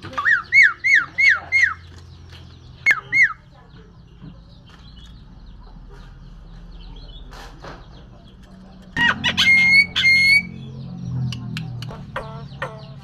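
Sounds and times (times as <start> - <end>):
myna bird calling: 0.0 - 13.0.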